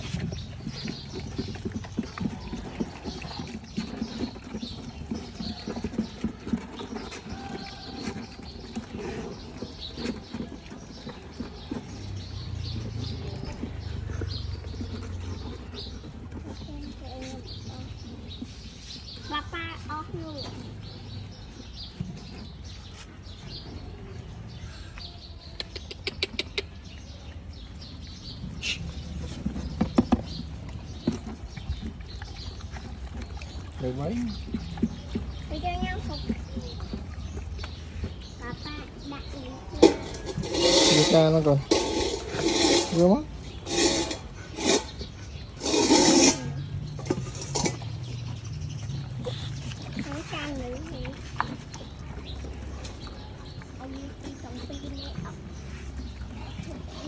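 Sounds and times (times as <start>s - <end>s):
puppies eating with wet smacks: 0.0s - 41.6s, 46.5s - 57.0s.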